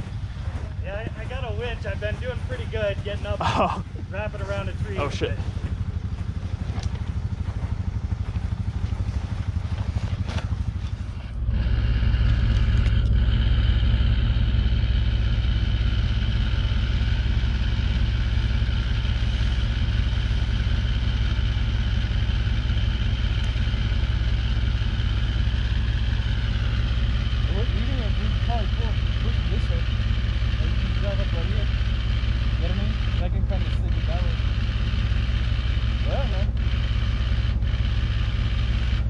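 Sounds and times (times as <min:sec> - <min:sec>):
engine idling: 0:00.0 - 0:39.0
high whine: 0:00.0 - 0:39.0.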